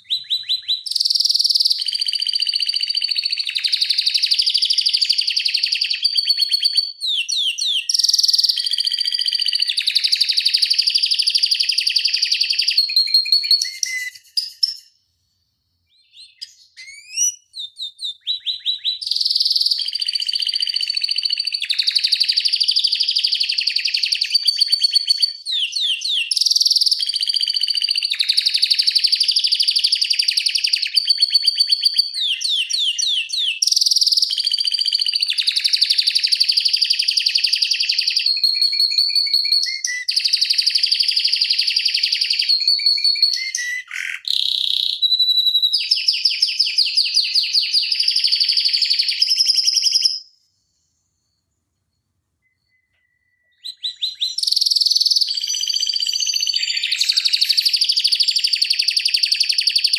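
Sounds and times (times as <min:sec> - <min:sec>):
canary singing trills: 0:00.0 - 0:14.9, 0:15.9 - 0:50.4, 0:52.4 - 0:59.9.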